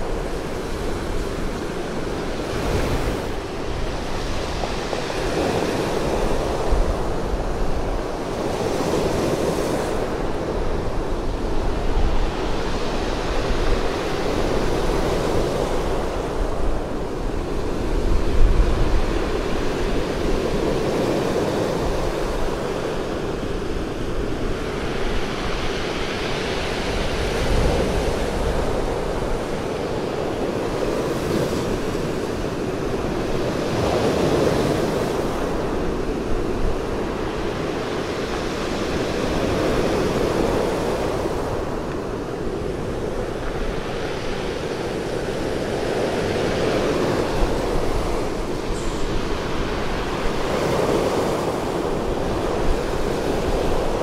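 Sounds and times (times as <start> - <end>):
waves crashing on pebble beach: 0.0 - 54.0
wind rumble on microphone: 0.0 - 54.0.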